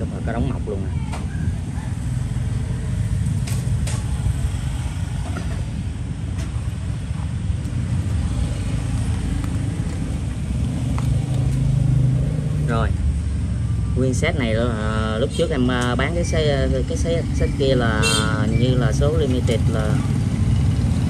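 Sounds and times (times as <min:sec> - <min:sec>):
rumble of motor traffic: 0:00.0 - 0:21.0.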